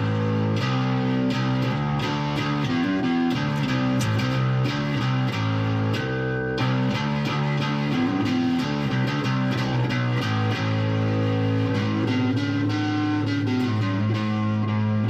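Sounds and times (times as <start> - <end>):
guitar-led music: 0.0 - 15.0.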